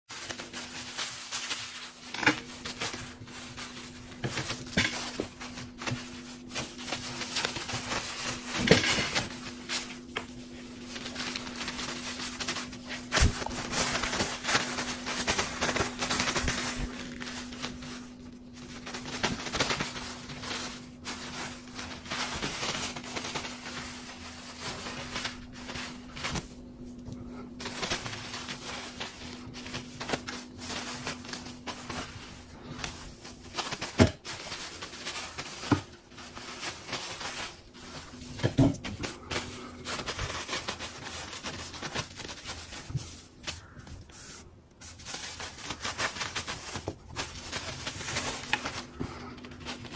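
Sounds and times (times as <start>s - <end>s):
paper napkin rustling: 0.1s - 49.9s
steady low hum: 0.3s - 41.9s.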